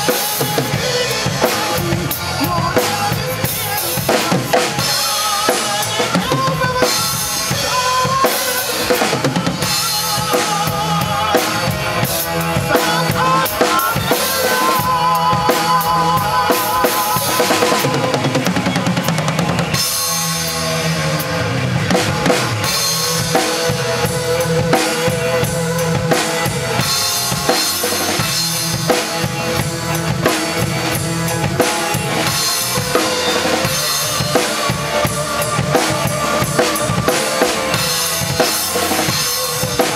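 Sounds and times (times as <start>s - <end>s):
drum kit played hard: 0.0s - 39.9s
recorded rock song: 0.0s - 39.9s.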